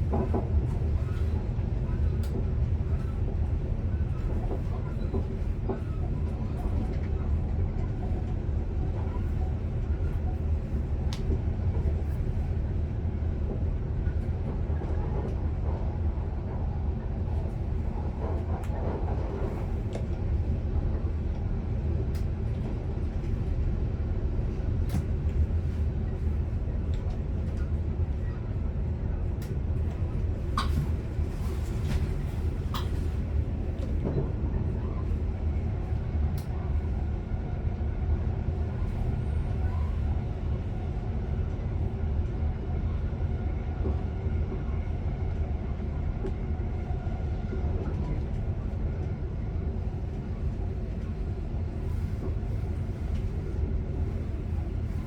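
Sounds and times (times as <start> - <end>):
electric train rumbling on track: 0.0 - 55.0.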